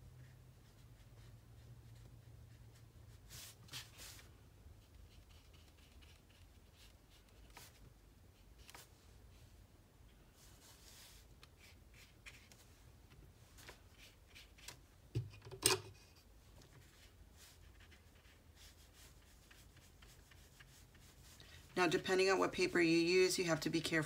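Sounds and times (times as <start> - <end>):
brush strokes on paper: 0.2 - 14.7, 16.4 - 23.1.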